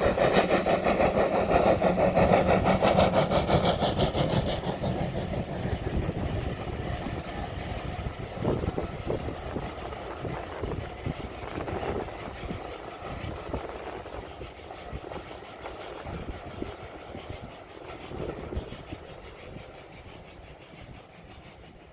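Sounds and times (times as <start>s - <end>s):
wind buffeting microphone: 0.0s - 21.8s
steam train rumbling past: 0.0s - 21.9s.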